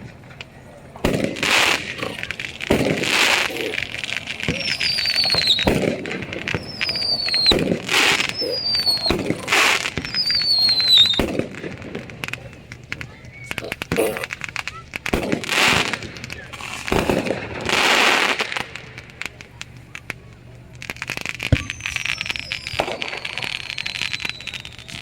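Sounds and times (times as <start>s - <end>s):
fireworks bangs and crackles: 0.0s - 25.0s
firework whistles: 1.0s - 19.4s, 20.9s - 25.0s.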